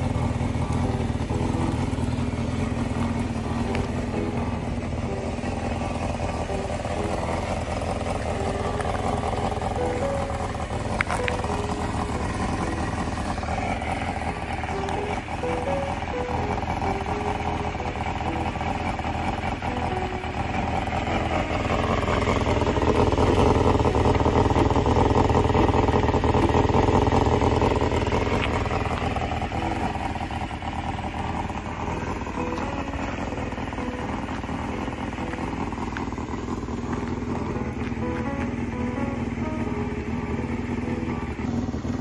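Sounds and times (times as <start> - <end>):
faint music notes: 0.0 - 42.0
motorcycle engine running: 0.0 - 42.0.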